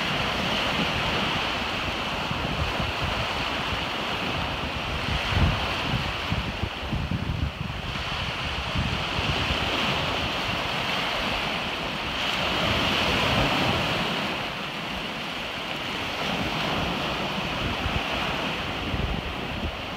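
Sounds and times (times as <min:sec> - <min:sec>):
surf waves breaking on shore: 0:00.0 - 0:19.9
wind buffeting microphone: 0:00.0 - 0:19.9.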